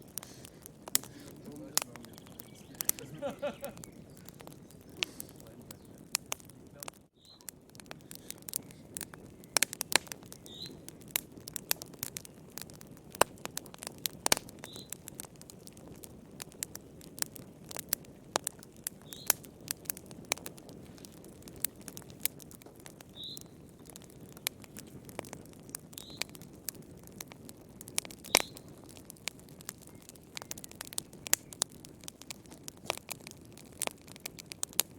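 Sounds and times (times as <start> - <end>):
rush of flames: 0.0 - 34.9
wood fire crackling: 0.0 - 34.9.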